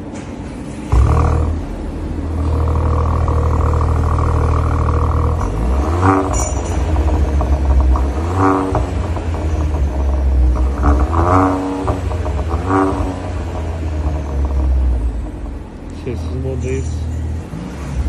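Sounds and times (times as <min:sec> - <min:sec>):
car engine rumbling: 0:00.0 - 0:18.0
engine revving: 0:00.9 - 0:18.0.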